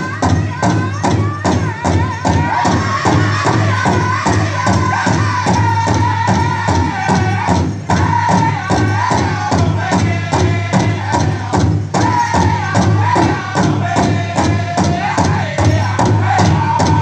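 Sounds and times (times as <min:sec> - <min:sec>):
large drum steady beat: 0:00.0 - 0:17.0
voices singing in unison: 0:00.0 - 0:17.0.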